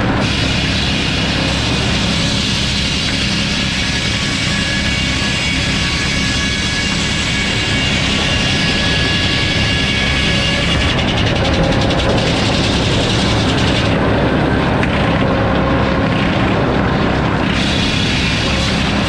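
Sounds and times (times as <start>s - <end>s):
high saw whine: 0.0s - 19.0s
low engine drone: 0.0s - 19.0s.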